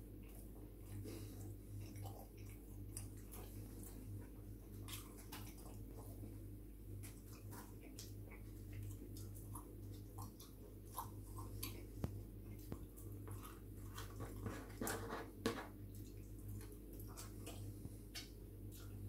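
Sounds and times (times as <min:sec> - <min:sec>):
man chewing close to microphone: 0:00.0 - 0:19.0
steady low hum: 0:00.0 - 0:19.0.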